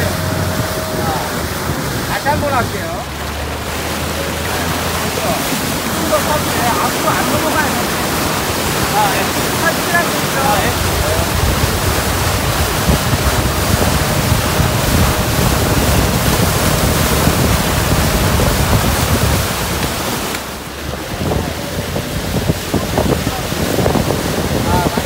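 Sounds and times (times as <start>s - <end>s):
water rushing and spraying: 0.0s - 25.0s
wind buffeting microphone: 0.0s - 25.0s.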